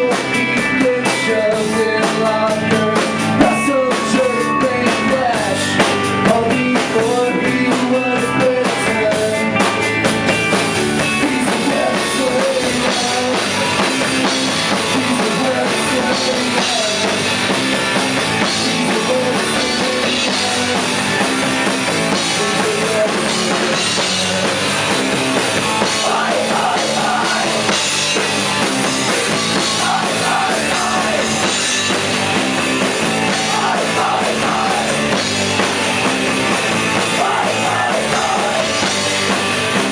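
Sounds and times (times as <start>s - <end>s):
drum kit: 0.0s - 39.9s
electric guitar: 0.0s - 39.9s
rock band playing live: 0.0s - 39.9s.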